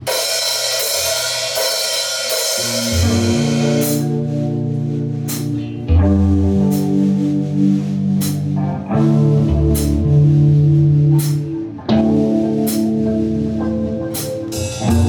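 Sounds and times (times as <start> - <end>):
held guitar and bass notes: 0.0 - 15.0
low guitar chord: 2.8 - 15.0.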